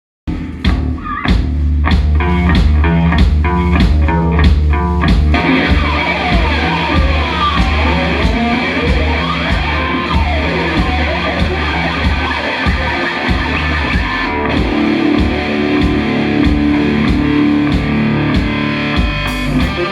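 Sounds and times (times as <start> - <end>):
drums: 0.3 - 19.9
electric guitar chugging riff: 0.3 - 19.9
heavy metal band playing: 0.3 - 19.9.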